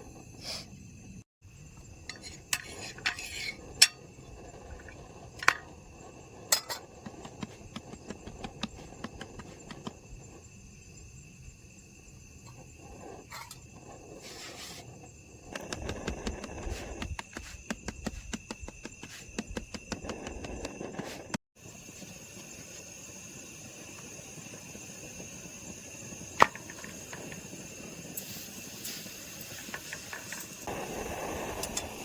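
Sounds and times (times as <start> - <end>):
insect chirring: 0.0 - 32.0.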